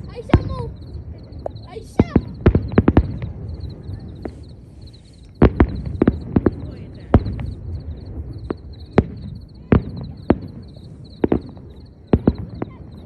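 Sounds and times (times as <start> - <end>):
fireworks bangs: 0.0 - 13.0
high pulsing chirp: 0.0 - 13.0.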